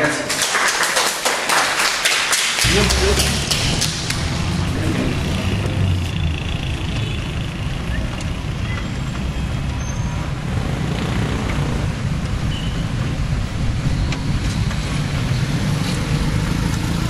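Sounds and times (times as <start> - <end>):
street traffic rumble: 2.6 - 17.0.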